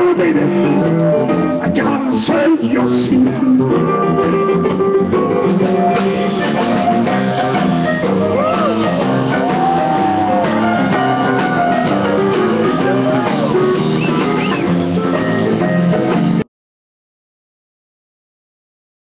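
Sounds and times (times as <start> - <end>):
electric keyboard: 0.0 - 16.4
live rock band playing blues: 0.0 - 16.4.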